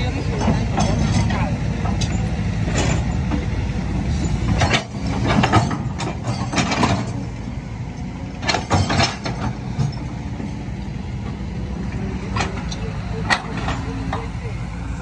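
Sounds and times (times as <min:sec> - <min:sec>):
metallic clanking and knocking: 0:00.0 - 0:14.5
excavator diesel engines running: 0:00.0 - 0:15.0.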